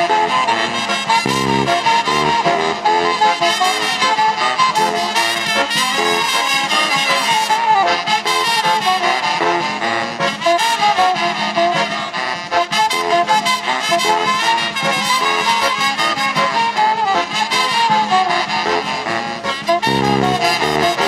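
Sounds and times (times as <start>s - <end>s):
horn section playing melody: 0.0s - 21.0s.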